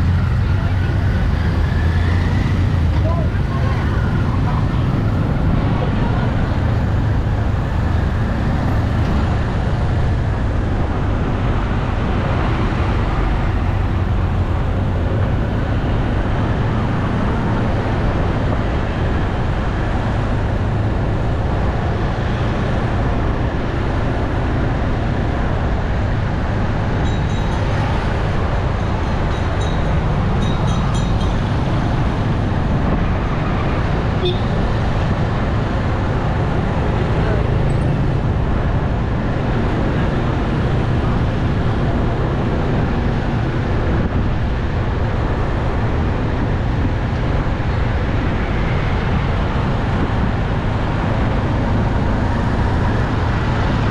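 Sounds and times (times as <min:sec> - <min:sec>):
street traffic rumble: 0:00.0 - 0:53.9.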